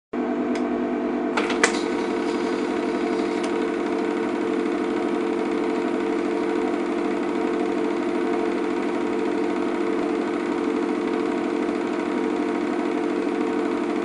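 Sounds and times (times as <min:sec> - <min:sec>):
film projector whirring: 0:00.5 - 0:14.0.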